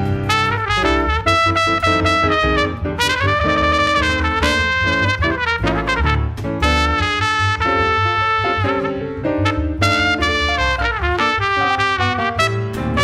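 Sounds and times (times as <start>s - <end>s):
jazz trumpet melody: 0.0s - 13.0s
piano accompaniment: 0.0s - 13.0s
upright bass: 0.0s - 13.0s.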